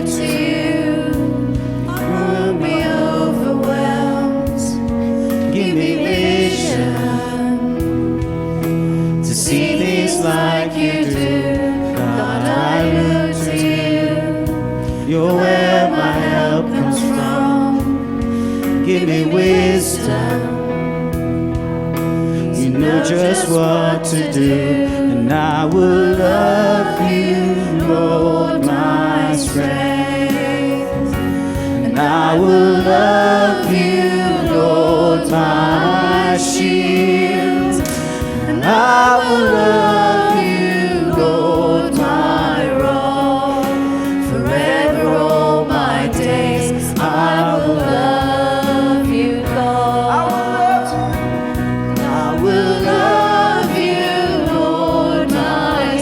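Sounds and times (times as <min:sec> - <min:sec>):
choir singing gospel song: 0:00.0 - 0:56.0
instrumental accompaniment: 0:00.0 - 0:56.0.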